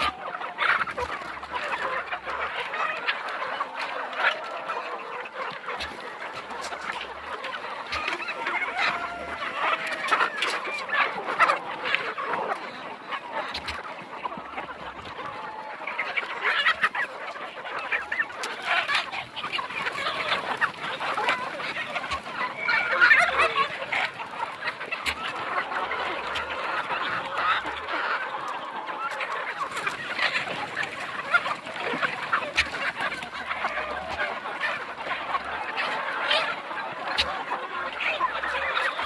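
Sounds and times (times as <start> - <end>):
flock of chickens clucking: 0.0 - 39.0.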